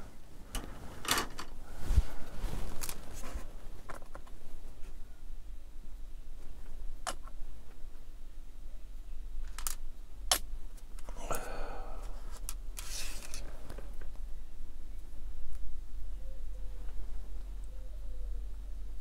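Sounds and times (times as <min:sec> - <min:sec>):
rustle and hiss: 0:00.0 - 0:08.2, 0:09.4 - 0:18.4.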